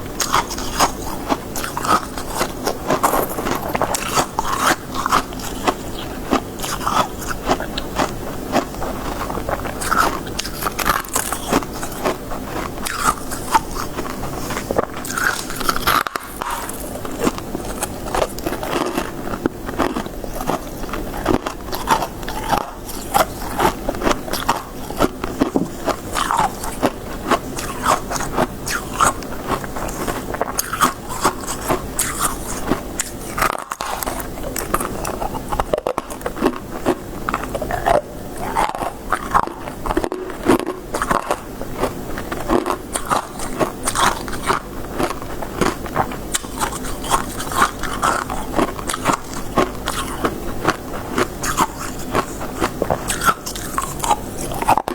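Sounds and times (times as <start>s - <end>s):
crunching and chewing frost: 0.0s - 54.9s.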